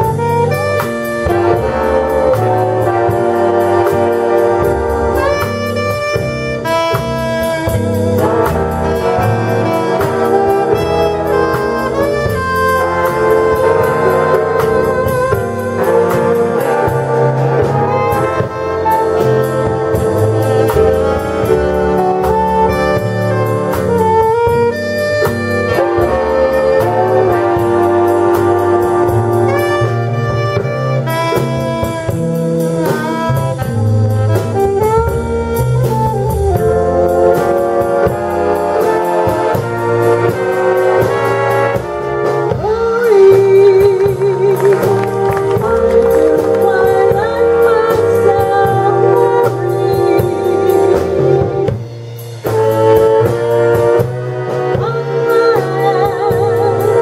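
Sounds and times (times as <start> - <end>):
bass line: 0.0 - 57.0
big band playing: 0.0 - 57.0
saxophones and brass melody: 0.0 - 57.0.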